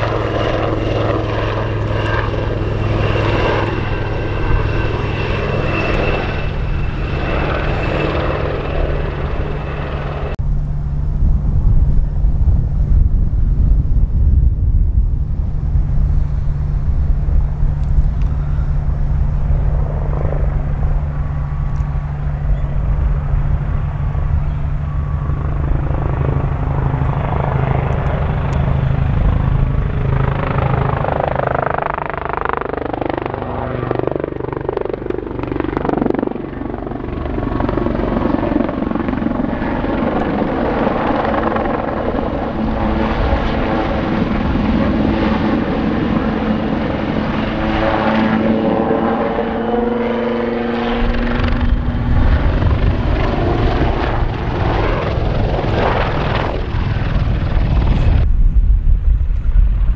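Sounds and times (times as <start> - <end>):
helicopter rotor beat: 0.0 - 59.9
turbine whine: 0.0 - 59.9.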